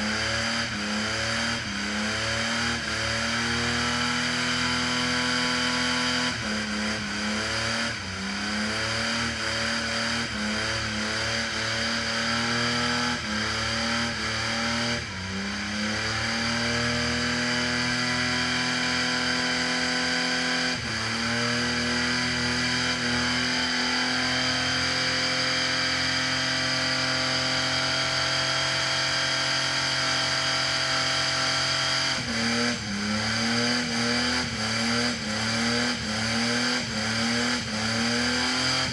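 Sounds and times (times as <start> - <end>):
car engine revving high: 0.0 - 38.9.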